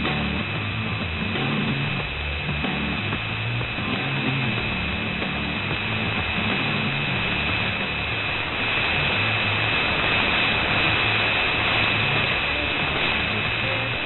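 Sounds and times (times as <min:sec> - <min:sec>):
faint radio music: 0:00.0 - 0:14.0
static hiss: 0:00.0 - 0:14.0.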